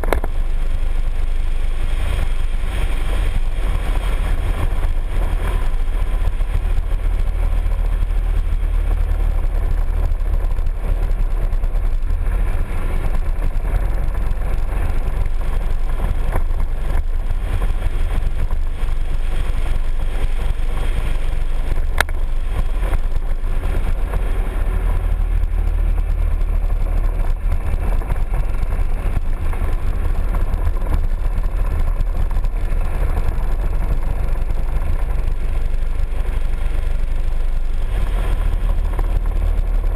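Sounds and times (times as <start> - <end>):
scooter engine running: 0.0 - 39.9
wind buffeting microphone: 0.0 - 39.9.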